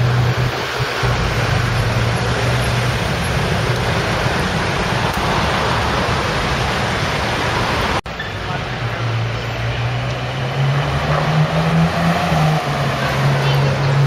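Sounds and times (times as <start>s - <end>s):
passing vehicles: 0.0s - 14.0s.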